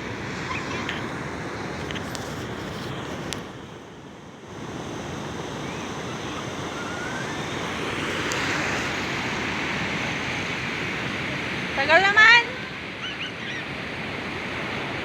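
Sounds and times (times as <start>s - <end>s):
ocean surf washing on beach: 0.0s - 15.0s.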